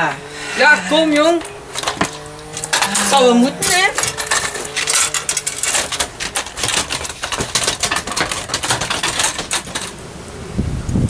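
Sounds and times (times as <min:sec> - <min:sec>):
kick scooters rattling on paving: 0:00.0 - 0:10.2.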